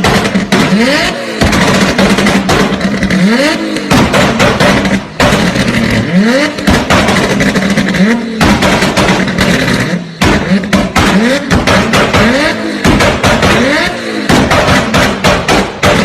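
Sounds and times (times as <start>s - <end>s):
car engine revving: 0.0s - 16.0s
exhaust bangs and pops: 0.0s - 16.0s.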